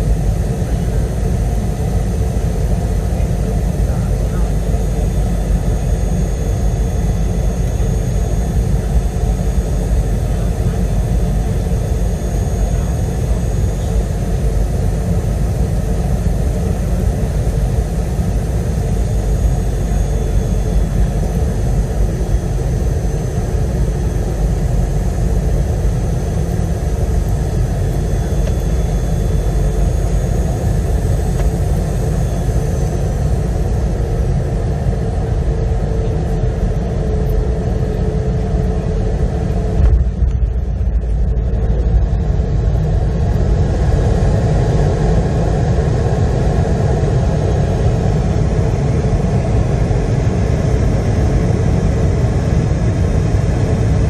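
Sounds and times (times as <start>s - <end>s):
jet engines and airflow rumble: 0.0s - 54.0s.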